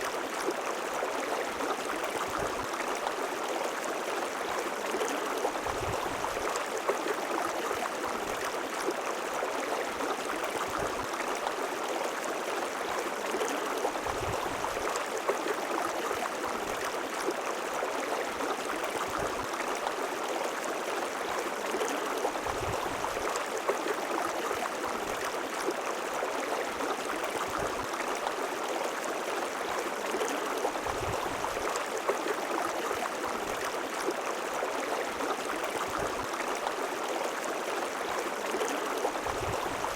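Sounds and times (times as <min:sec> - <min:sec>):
water splashes and gurgles: 0:00.0 - 0:39.9.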